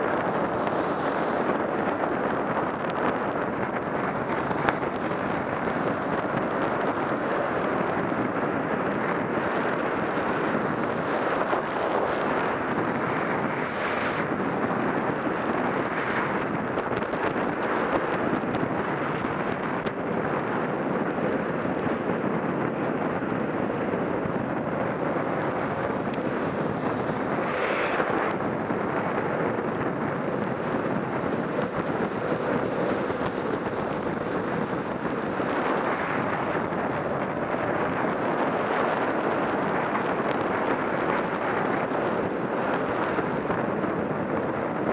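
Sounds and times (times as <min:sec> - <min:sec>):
wheels rolling on wet asphalt: 0:00.0 - 0:44.9
wind rush on microphone: 0:00.0 - 0:44.9.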